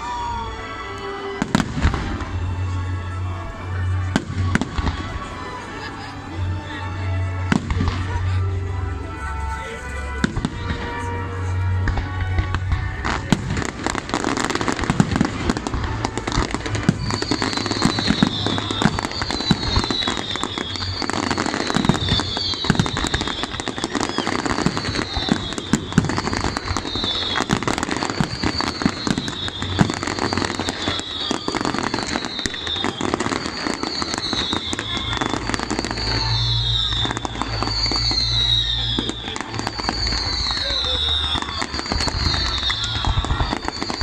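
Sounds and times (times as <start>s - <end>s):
falling high whistle: 0.0s - 5.5s, 8.2s - 44.0s
fireworks bursts and crackling: 0.0s - 44.0s.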